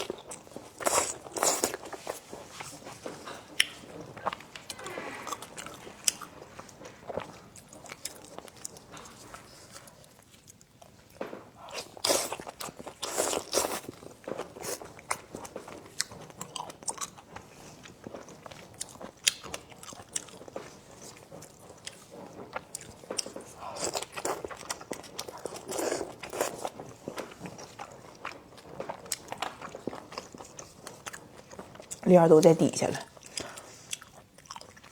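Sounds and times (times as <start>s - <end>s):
person chewing food: 0.0s - 32.0s, 33.1s - 34.9s.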